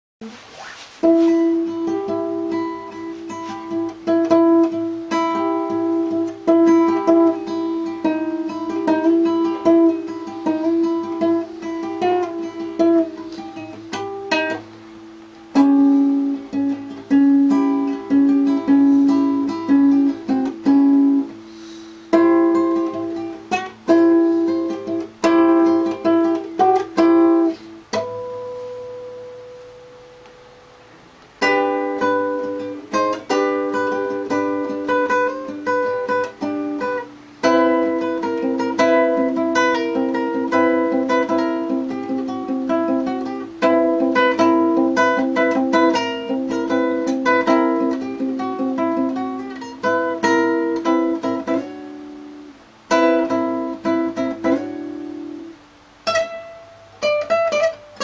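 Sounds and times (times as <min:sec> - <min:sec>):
fingerstyle classical guitar: 0:00.2 - 0:58.0.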